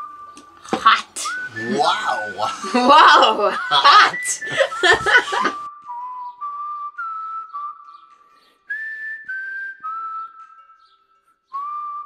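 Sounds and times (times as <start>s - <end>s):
person whistling a slow tune: 0.0s - 12.0s.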